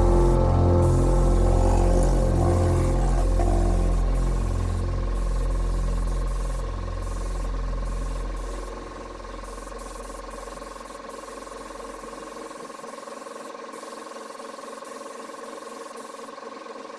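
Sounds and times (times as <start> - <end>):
air compressor motor humming: 0.0 - 16.7
paint spray gun hissing: 0.0 - 16.9.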